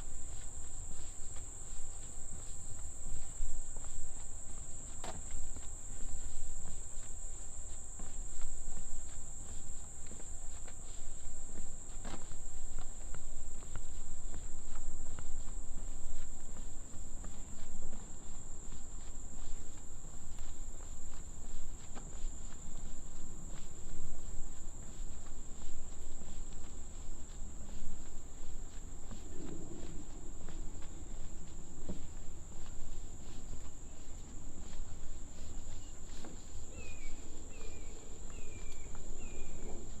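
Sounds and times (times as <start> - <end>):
footsteps on trail: 0.0 - 40.0
high-pitched insect chorus: 0.0 - 40.0.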